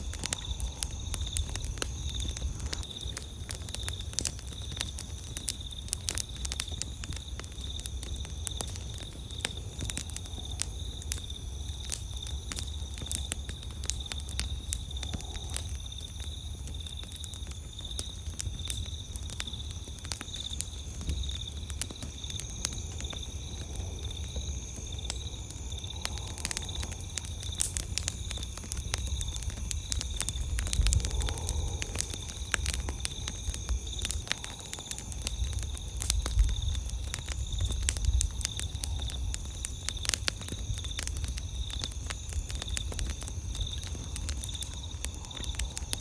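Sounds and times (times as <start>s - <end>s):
campfire crackling and popping: 0.0s - 46.0s
insects trilling: 0.0s - 46.0s.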